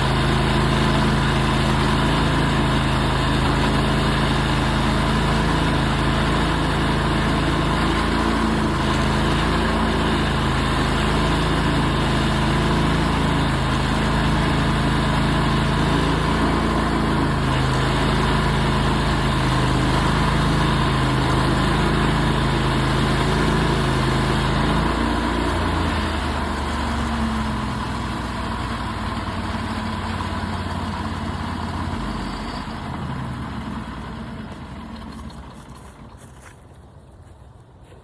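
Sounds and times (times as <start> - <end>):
sawmill engine running: 0.0 - 37.8.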